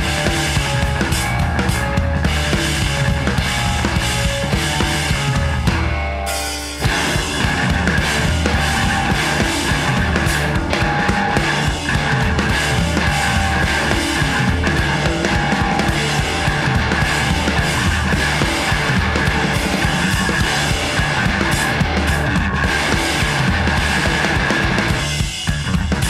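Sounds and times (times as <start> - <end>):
loud dense band music: 0.0 - 26.0.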